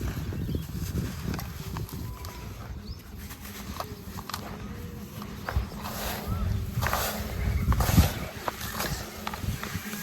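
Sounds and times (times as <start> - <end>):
sand-cement crumbling and crunching: 0.0 - 10.0.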